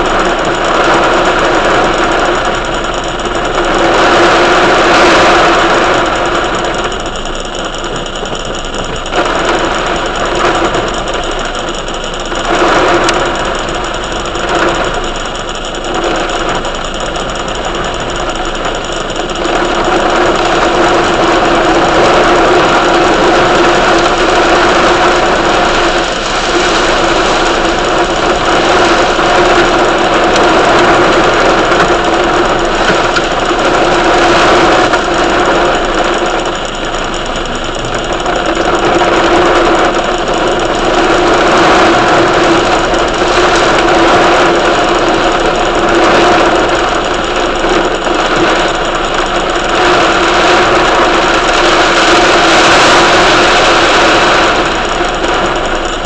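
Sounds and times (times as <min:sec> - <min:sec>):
heavy rain pouring: 0:00.0 - 0:56.0
steady hum: 0:00.0 - 0:56.0.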